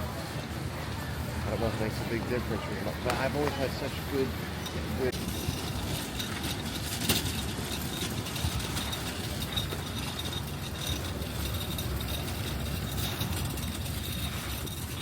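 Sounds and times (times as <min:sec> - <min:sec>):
steady low rumble: 0:00.1 - 0:15.0.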